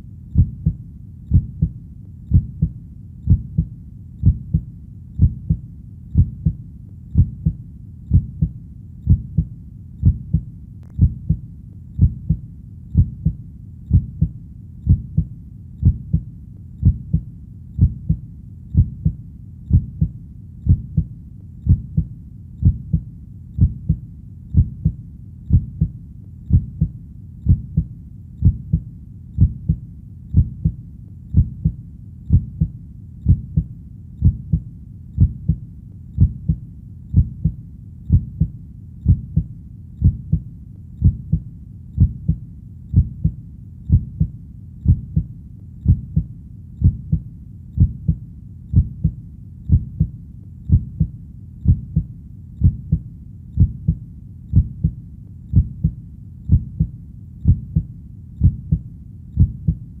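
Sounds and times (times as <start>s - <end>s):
human heartbeat: 0.0s - 60.0s.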